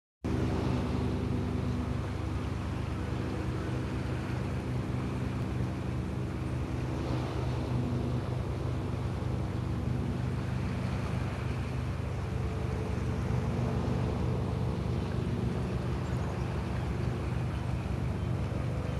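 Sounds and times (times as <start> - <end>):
low engine drone: 0.2 - 18.9.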